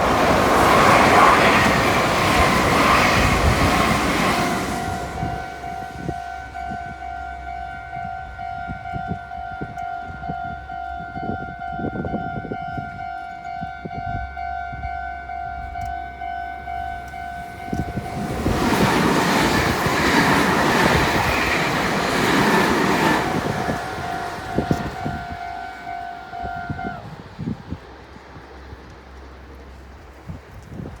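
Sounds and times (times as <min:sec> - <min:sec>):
level-crossing warning bell: 0:00.0 - 0:27.2
train passing: 0:00.0 - 0:31.0.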